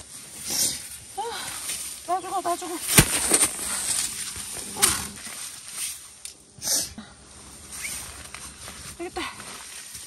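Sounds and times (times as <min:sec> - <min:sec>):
tent fabric and gear rustling: 0:00.0 - 0:06.4, 0:07.2 - 0:10.0.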